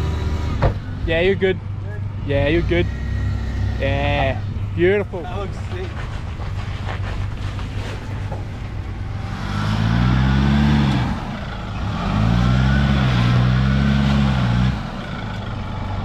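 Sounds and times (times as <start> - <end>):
off-road vehicle engine revving: 0.0 - 7.2, 8.3 - 16.0.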